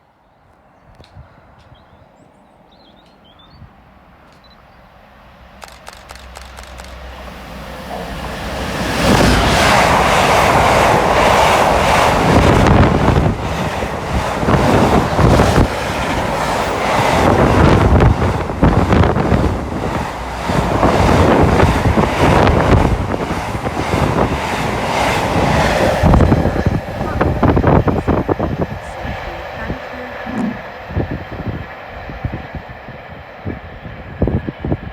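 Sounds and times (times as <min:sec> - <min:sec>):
train passing at speed: 0:00.0 - 0:34.9
wind buffeting microphone: 0:06.2 - 0:34.9.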